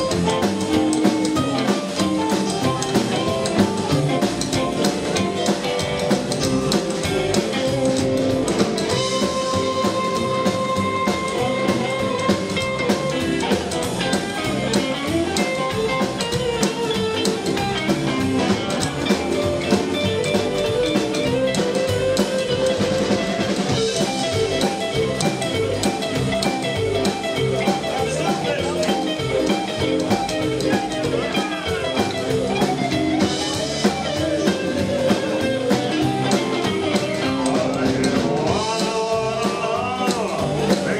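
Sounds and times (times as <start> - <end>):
bass guitar: 0.0 - 40.9
drum kit beat: 0.0 - 40.9
electric guitar: 0.0 - 40.9.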